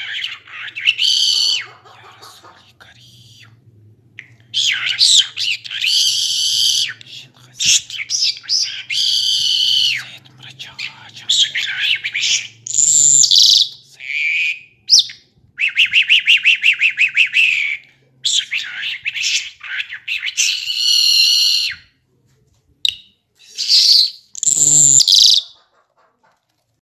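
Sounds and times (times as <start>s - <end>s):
lark singing: 0.0s - 2.6s, 4.2s - 21.8s, 22.9s - 25.6s.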